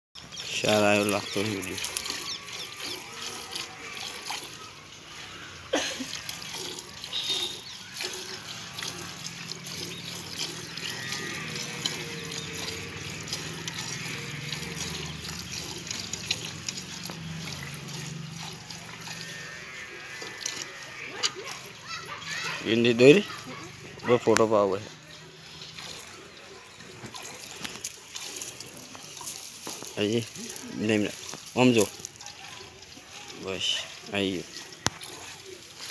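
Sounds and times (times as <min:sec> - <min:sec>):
milk squirting into pail: 0:00.2 - 0:35.9.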